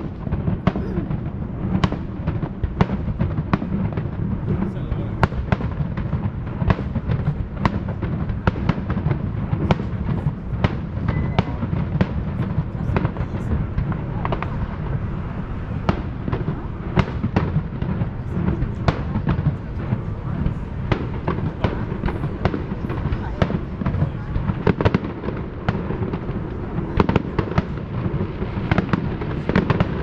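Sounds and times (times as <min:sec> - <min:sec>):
low rumble: 0:00.0 - 0:29.7
fireworks cracks and bangs: 0:00.0 - 0:30.0.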